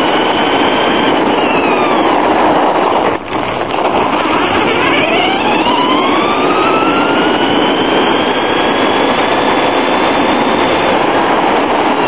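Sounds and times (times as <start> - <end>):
electric motor and gears whining: 0.0 - 12.0
tyre and road noise: 0.0 - 12.0.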